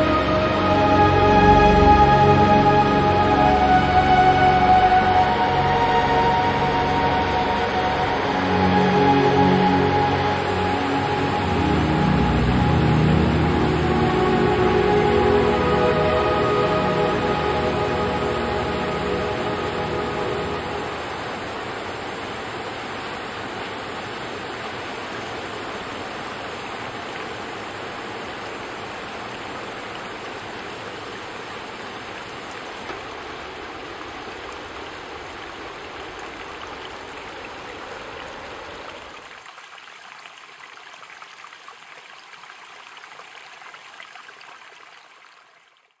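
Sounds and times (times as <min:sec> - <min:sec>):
rushing spillway water: 0:00.0 - 0:45.9.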